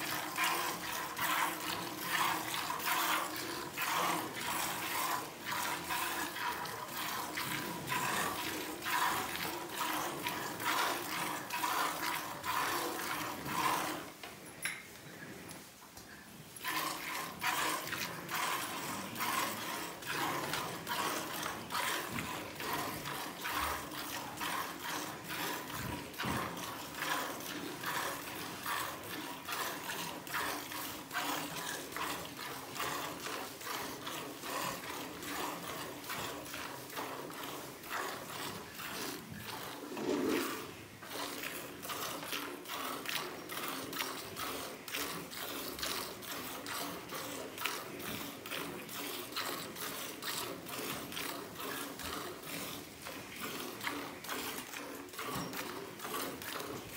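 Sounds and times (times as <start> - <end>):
milk squirting into pail: 0.0 - 14.2, 16.6 - 56.9.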